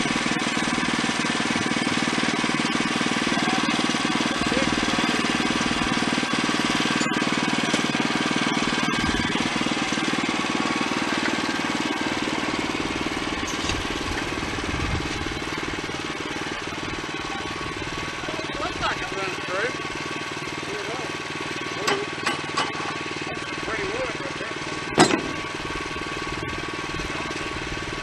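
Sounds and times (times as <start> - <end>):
band sawmill running: 0.0 - 28.0.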